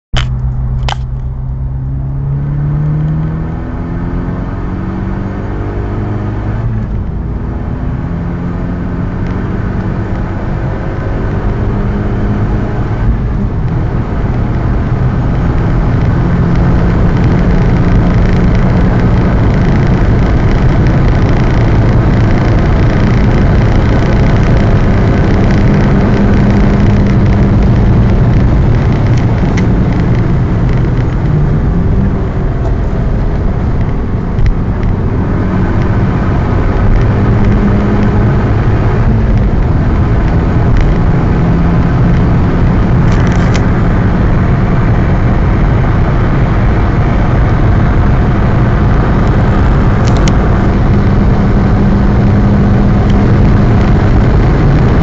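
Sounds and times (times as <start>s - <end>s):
wind and road noise: 0.0s - 55.0s
car engine pulling hard: 0.2s - 55.0s.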